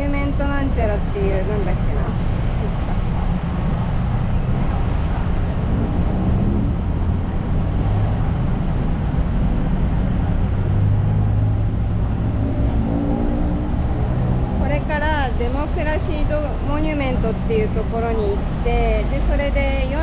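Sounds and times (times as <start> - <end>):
passing vehicles engine rumble: 0.0 - 20.0.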